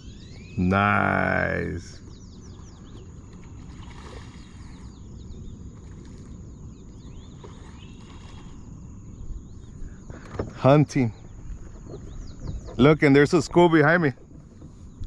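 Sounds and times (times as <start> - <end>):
bird chirps: 0.0 - 14.0
wind and water rumble: 0.0 - 15.0.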